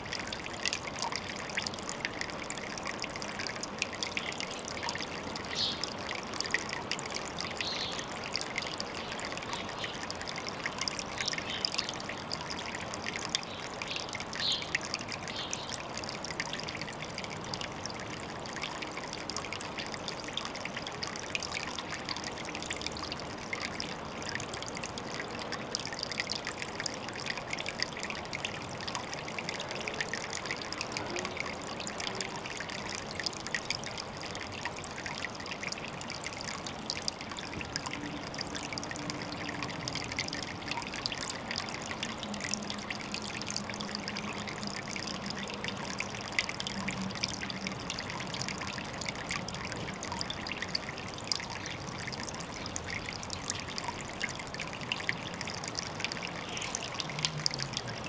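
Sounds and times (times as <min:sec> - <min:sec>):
water trickling into a pond: 0:00.0 - 0:58.0.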